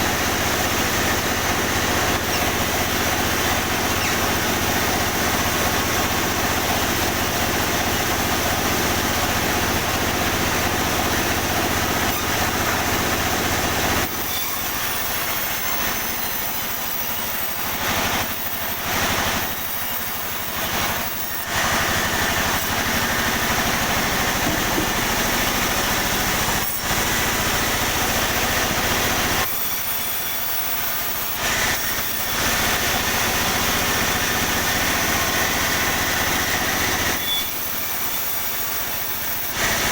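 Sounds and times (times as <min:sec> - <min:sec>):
sawmill sawing timber: 0:00.0 - 0:39.9.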